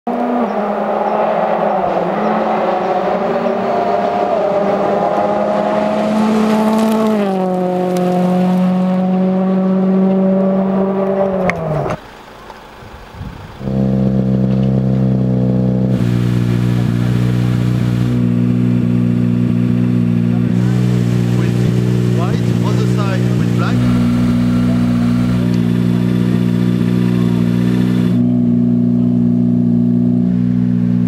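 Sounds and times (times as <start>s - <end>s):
lower engine note: 0.1s - 12.0s, 12.9s - 31.0s
rally car engine revving high: 0.1s - 12.0s, 13.3s - 31.0s.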